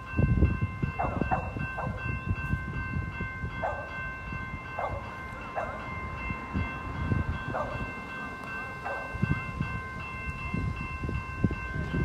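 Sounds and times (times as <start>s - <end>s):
crossing warning bell ringing: 0.0s - 12.0s.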